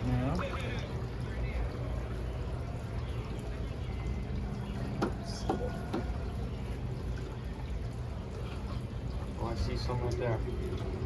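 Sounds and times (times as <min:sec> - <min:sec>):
water swirling and sloshing: 0:00.0 - 0:11.0.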